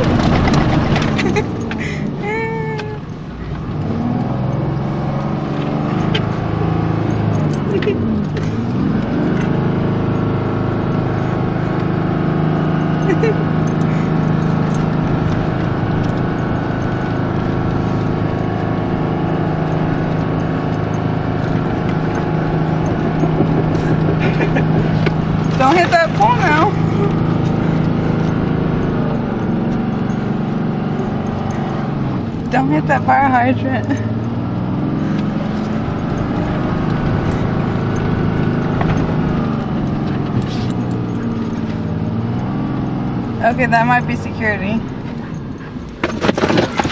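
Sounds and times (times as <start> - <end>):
truck engine running inside cab: 0.0 - 46.9.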